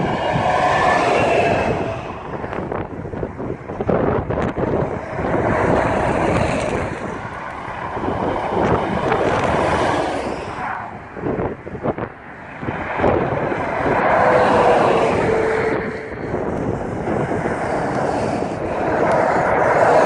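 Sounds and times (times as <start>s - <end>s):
heavy lorries passing: 0.0s - 20.0s
wind buffeting microphone: 0.0s - 20.0s.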